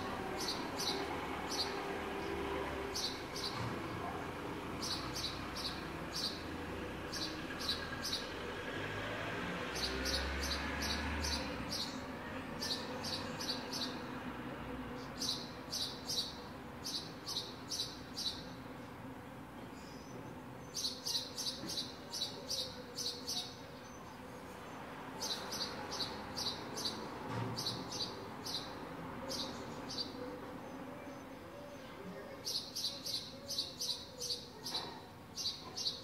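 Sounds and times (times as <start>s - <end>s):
sparrow chirping: 0.0s - 8.4s, 9.7s - 14.1s, 15.0s - 18.7s, 19.7s - 36.0s.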